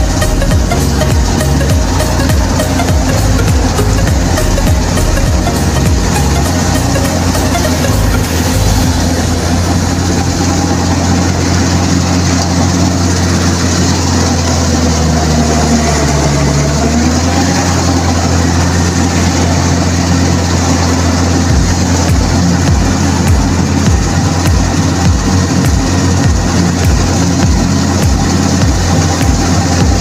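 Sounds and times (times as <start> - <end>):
harvester engine and threshing machinery: 0.0 - 30.0.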